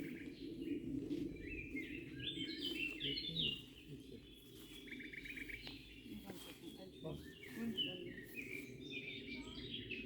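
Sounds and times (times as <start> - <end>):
songbirds singing: 0.0 - 10.0.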